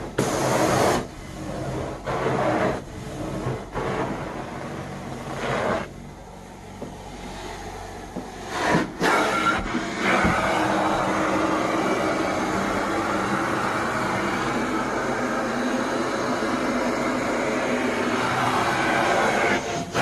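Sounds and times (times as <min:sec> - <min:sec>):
vacuum suction rushing: 0:00.0 - 0:20.0.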